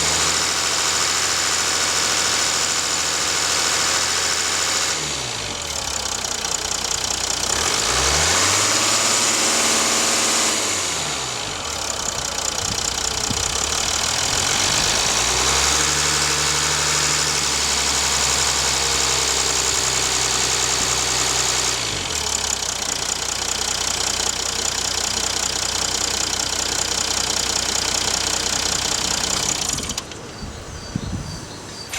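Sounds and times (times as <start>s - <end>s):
diesel engine idling and revving: 0.0s - 31.9s.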